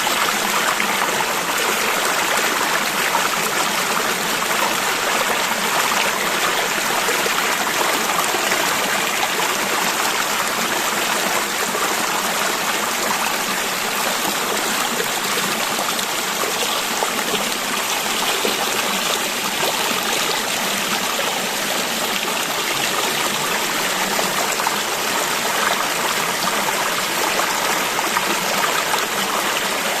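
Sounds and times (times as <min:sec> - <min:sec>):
river water flowing over stones: 0:00.0 - 0:30.0.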